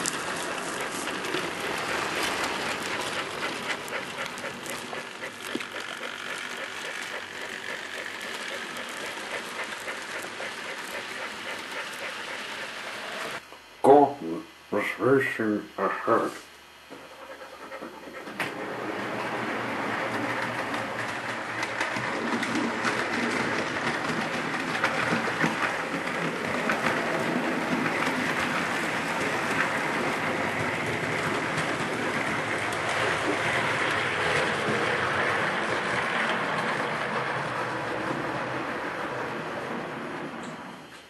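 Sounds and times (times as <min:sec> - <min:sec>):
steam train chuffing: 0:00.0 - 0:13.4, 0:16.9 - 0:40.5.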